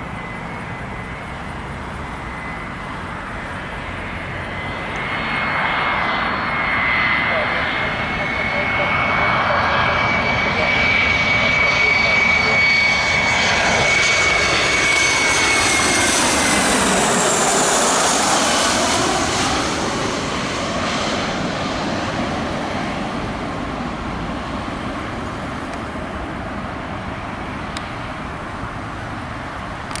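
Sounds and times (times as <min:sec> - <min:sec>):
jet engines passing overhead: 0:00.0 - 0:30.0.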